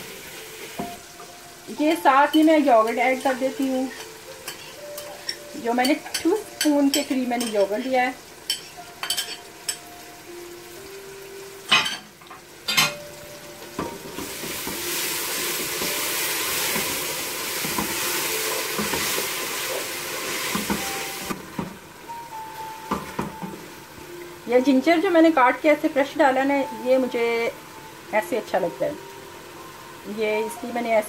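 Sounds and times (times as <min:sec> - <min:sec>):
loud sizzle with stirring: 0:00.0 - 0:31.0.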